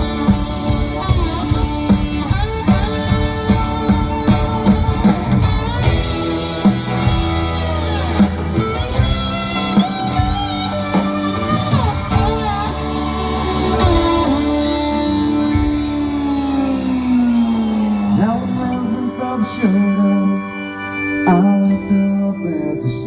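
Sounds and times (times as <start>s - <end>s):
steady drum beat: 0.0s - 18.9s
lead guitar bending notes: 0.0s - 23.0s
sustained chords: 0.0s - 23.0s.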